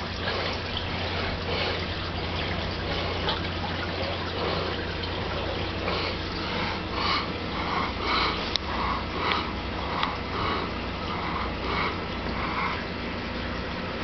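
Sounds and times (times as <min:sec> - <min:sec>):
aquarium air stones bubbling: 0:00.0 - 0:14.0.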